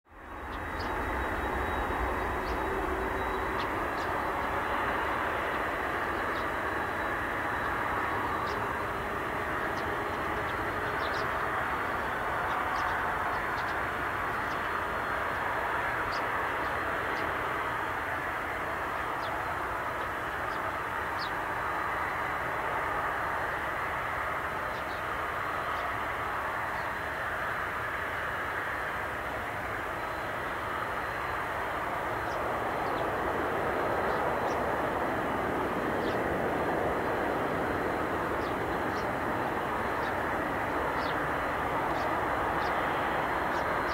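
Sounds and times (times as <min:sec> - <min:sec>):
jet engine rush: 0:00.1 - 0:43.9.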